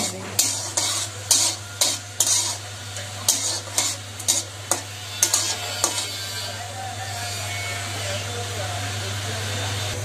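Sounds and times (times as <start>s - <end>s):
metal spatula scraping a pan: 0.0s - 8.4s
chillies sizzling in oil: 0.0s - 10.0s.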